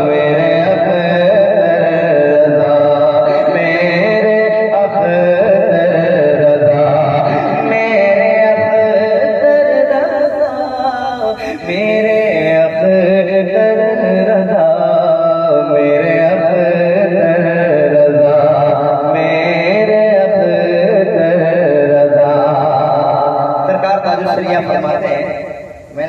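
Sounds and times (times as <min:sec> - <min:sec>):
man singing into microphone: 0:00.0 - 0:26.0.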